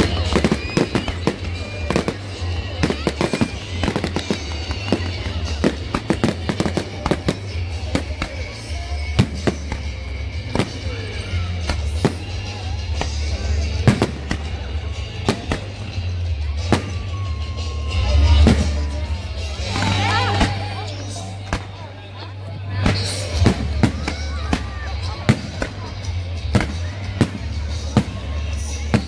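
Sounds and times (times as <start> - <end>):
fireworks bangs and crackles: 0.0 - 22.1, 22.7 - 29.0.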